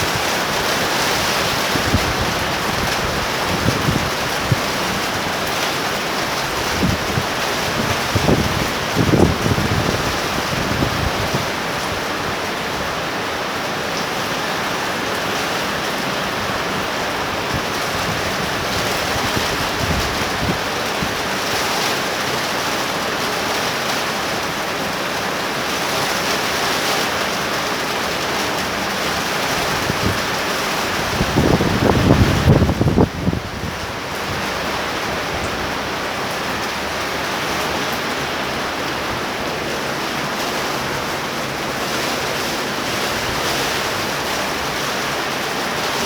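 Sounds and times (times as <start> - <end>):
torrential rain pouring: 0.0 - 46.0.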